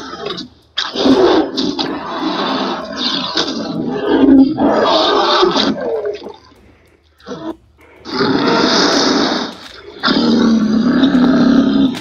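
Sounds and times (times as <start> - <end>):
monster roar: 0.0 - 6.4, 7.3 - 12.0.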